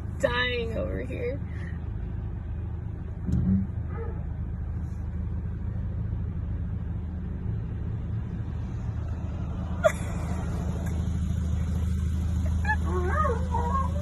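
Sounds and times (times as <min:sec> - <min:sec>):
car engine drone: 0:00.0 - 0:14.0
road noise inside car: 0:00.0 - 0:14.0.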